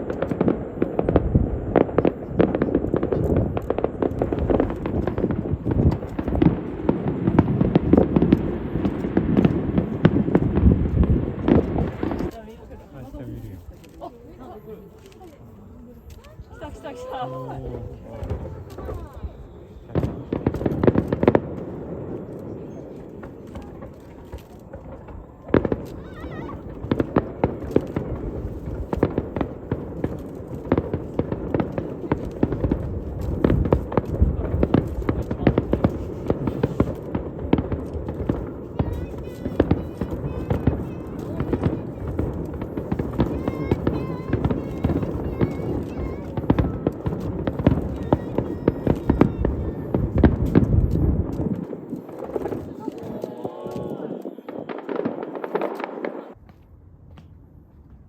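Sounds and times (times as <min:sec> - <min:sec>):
fireworks popping and crackling: 0:00.0 - 0:58.0.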